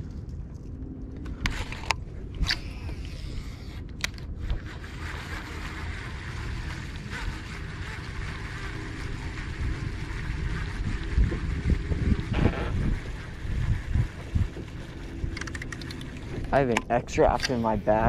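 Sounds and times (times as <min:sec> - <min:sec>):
wind rumble on microphone: 0:00.0 - 0:18.0
fishing reel whirring: 0:01.5 - 0:16.8.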